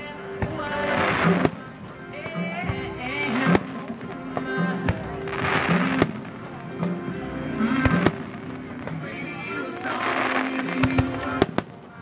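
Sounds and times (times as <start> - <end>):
pop music over loudspeakers: 0.0 - 12.0
fireworks bangs: 0.4 - 12.0.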